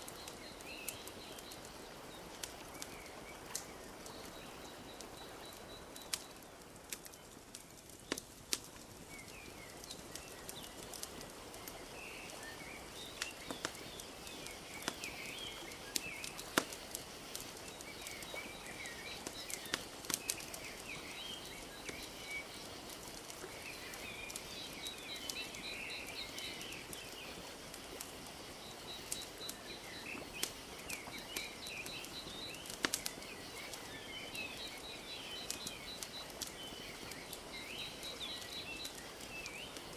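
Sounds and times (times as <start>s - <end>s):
small birds chirping: 0.0s - 39.9s
wood fire crackling and popping: 0.0s - 39.9s.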